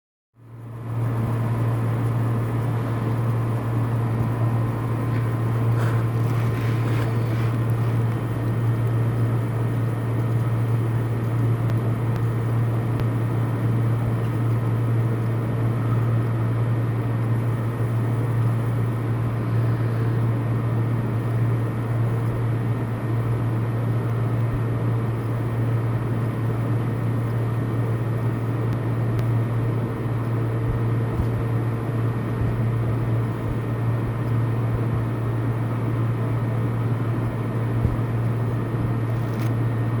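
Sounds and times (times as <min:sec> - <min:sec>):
low mechanical hum: 0:00.4 - 0:40.0.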